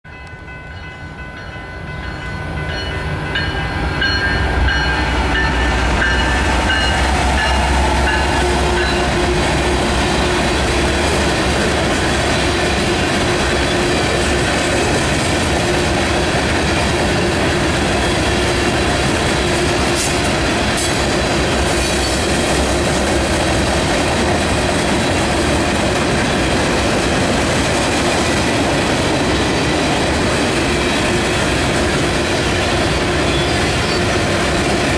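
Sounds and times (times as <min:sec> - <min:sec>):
freight train passing: 0:00.0 - 0:34.9.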